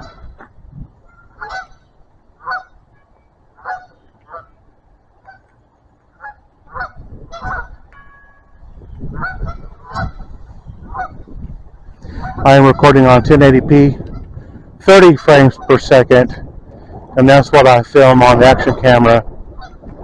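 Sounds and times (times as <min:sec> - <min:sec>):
geese honking: 0:00.0 - 0:16.1, 0:17.3 - 0:19.9.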